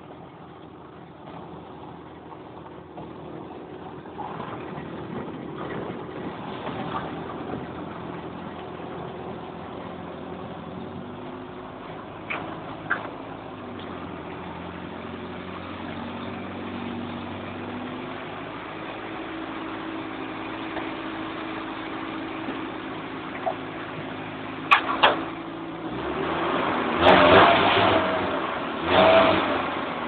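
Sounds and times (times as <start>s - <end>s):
car engine idling: 0.0s - 30.0s
engine revving: 4.0s - 30.0s.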